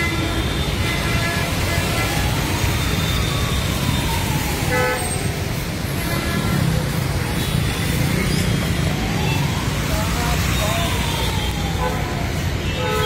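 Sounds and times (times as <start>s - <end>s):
car and motorcycle engines rumbling: 0.0s - 13.0s.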